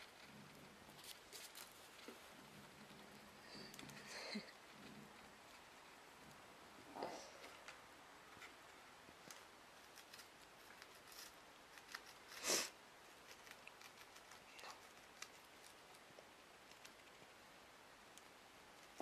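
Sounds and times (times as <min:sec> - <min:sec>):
gerbil nibbling and clawing: 0:00.0 - 0:19.0.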